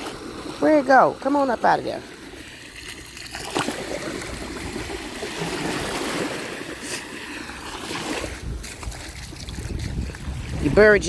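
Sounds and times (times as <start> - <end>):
ocean surf washing on beach: 0.0 - 11.0.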